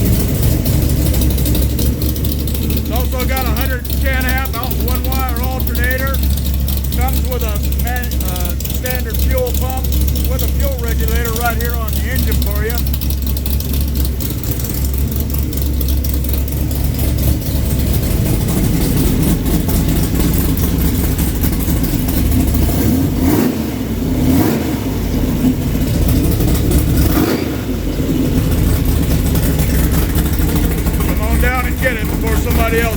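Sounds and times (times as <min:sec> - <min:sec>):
car engine idling: 0:00.0 - 0:32.9
engine throttle blips: 0:00.0 - 0:32.9.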